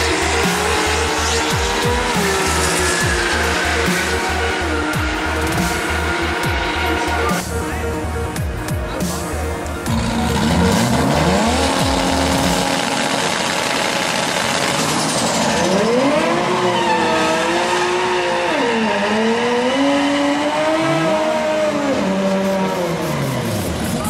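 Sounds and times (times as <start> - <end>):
car engine revving hard: 0.0 - 7.5, 9.8 - 24.0.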